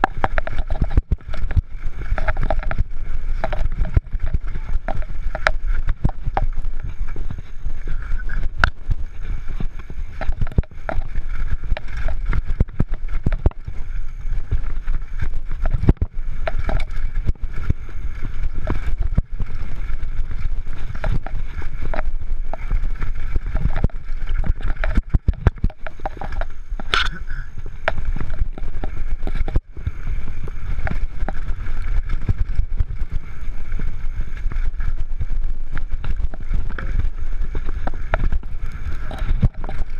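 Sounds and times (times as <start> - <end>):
bike rattling over rocks: 0.0 - 39.9
bike tyres rumbling on dirt: 0.0 - 39.9
wind on microphone: 0.0 - 39.9.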